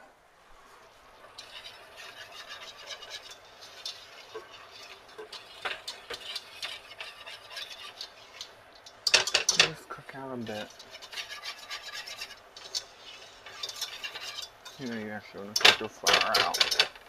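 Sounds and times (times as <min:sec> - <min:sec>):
whisk scraping a saucepan: 0:01.0 - 0:17.0
whisk wires clinking on pan: 0:01.2 - 0:17.0.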